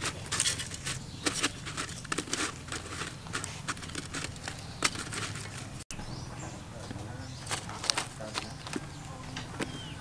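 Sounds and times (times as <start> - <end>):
stalks rustling: 0.0 - 5.8, 6.9 - 9.8.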